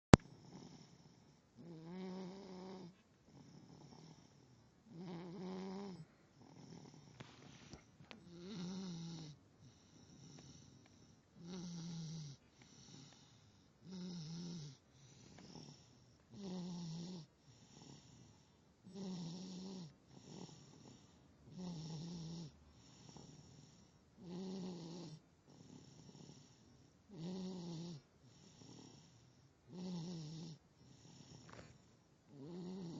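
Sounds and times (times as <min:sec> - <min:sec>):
loud rhythmic snoring: 0:00.1 - 0:32.9.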